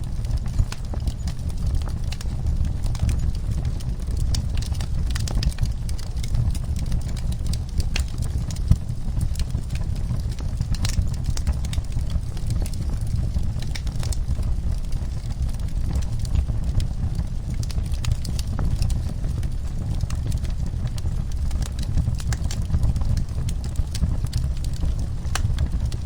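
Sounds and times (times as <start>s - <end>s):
low rumble of flames: 0.0s - 26.0s
wood fire crackling and popping: 0.0s - 26.0s.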